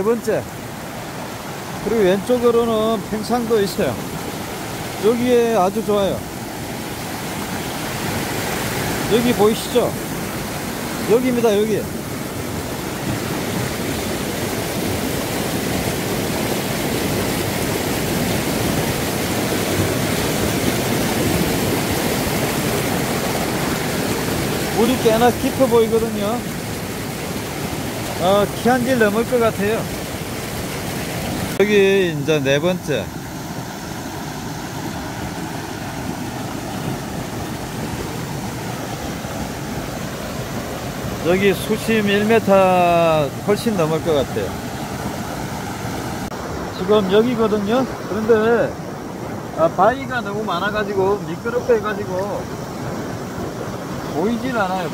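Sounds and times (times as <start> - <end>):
water rushing over rocks: 0.0 - 54.9.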